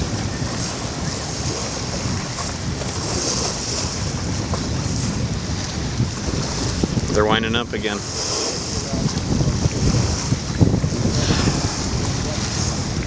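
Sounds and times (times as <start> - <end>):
sea washing against boat: 0.0 - 13.0
wind on microphone: 0.0 - 13.0.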